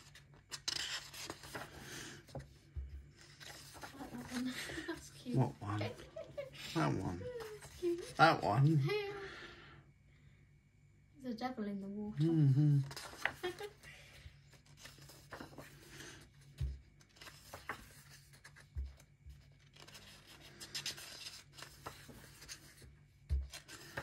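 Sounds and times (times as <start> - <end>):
paper pages rustling: 0.0 - 8.2, 12.8 - 24.0.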